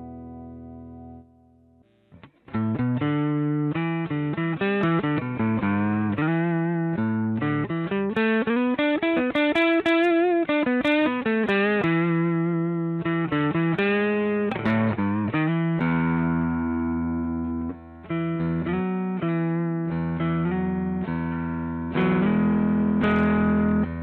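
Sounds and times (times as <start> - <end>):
electric guitar single notes: 0.0 - 24.0.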